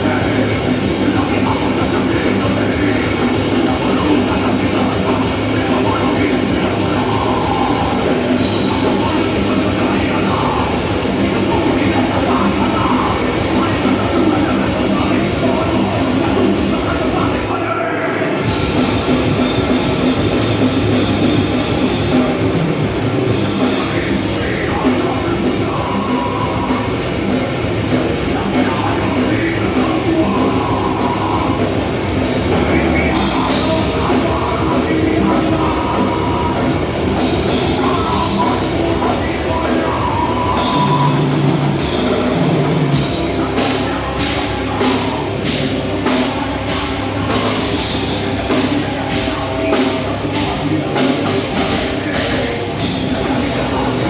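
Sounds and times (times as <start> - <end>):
steady drum beat: 0.0 - 17.8, 18.4 - 54.0
loud rock music: 0.0 - 54.0.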